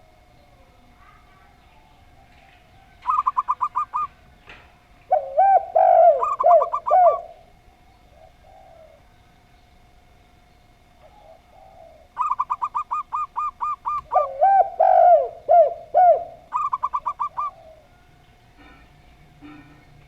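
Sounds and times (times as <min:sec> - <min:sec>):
doves cooing: 0:00.0 - 0:09.9, 0:10.8 - 0:20.0
faint steady hum: 0:00.0 - 0:20.0.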